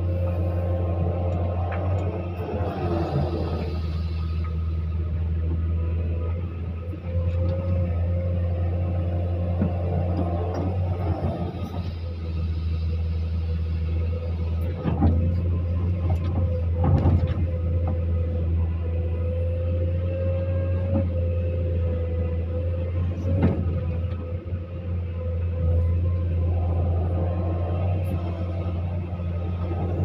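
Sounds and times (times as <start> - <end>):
diesel engine running under load: 0.0 - 30.0
engine whine: 0.0 - 30.0.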